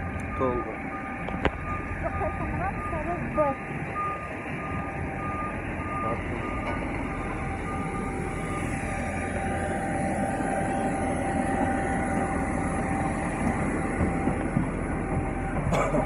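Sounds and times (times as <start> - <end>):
machinery rumble: 0.0 - 16.0
reversing alarm beeping: 0.0 - 16.0
steady whine: 0.0 - 16.0.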